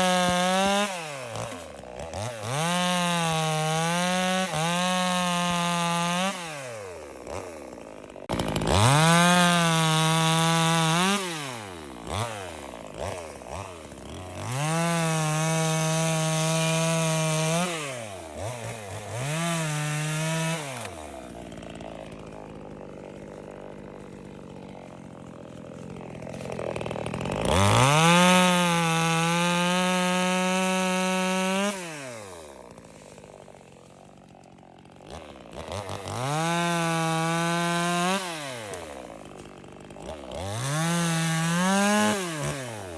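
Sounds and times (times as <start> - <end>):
chainsaw revving and winding down: 0.0 - 42.9.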